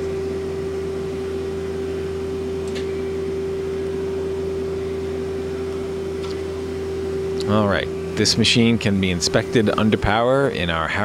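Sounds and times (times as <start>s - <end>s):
lathe machine humming: 0.0s - 11.0s.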